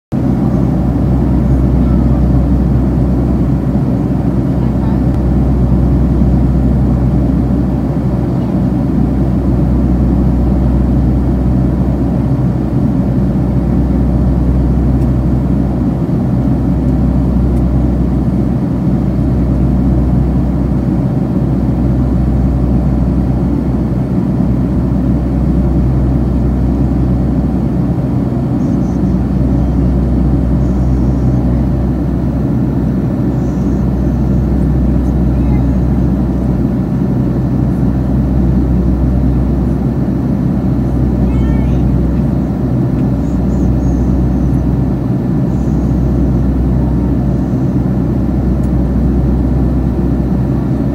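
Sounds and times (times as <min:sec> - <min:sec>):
jet cabin engine rumble: 0:00.1 - 0:50.9.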